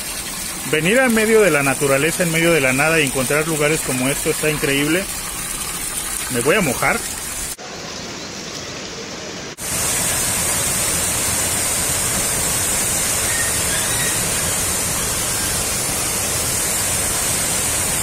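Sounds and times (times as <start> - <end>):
small waterfall rushing: 0.0 - 5.6, 6.2 - 18.0
trickling spring water: 0.0 - 18.0.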